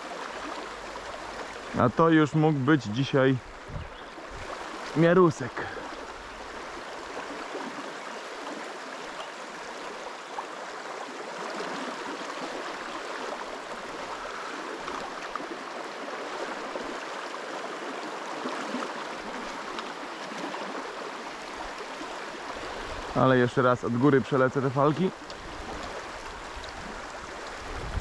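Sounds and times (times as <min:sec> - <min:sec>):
river rushing over stones: 0:00.0 - 0:28.0.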